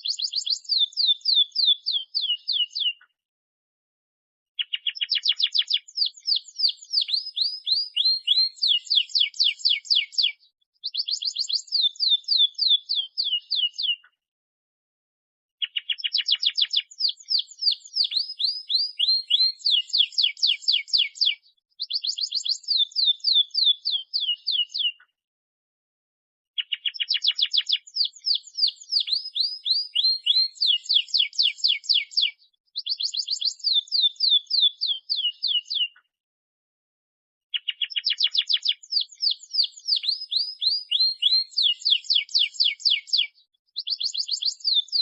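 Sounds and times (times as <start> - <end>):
canary singing trills: 0.0 - 3.1, 4.6 - 14.1, 15.6 - 25.1, 26.6 - 36.0, 37.5 - 45.0.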